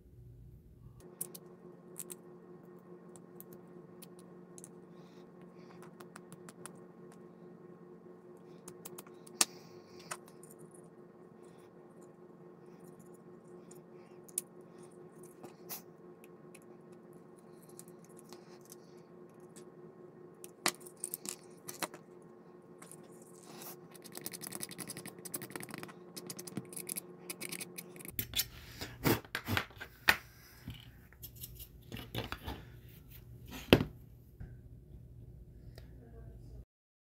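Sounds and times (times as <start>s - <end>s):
low steady hum: 0.0s - 36.6s.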